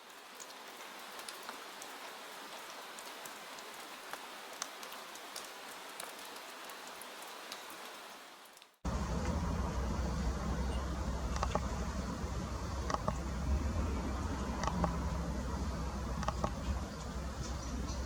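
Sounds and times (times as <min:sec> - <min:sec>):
soft rain falling: 0:00.0 - 0:18.0.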